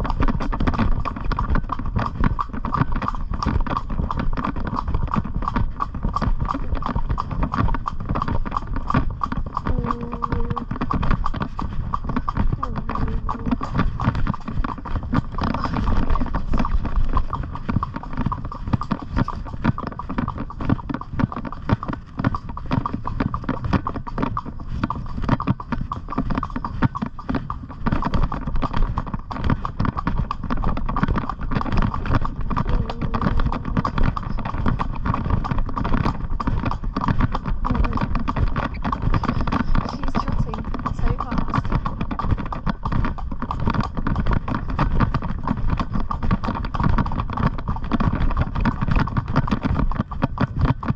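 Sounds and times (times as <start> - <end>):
pony hooves clip-clopping: 0.0 - 50.9.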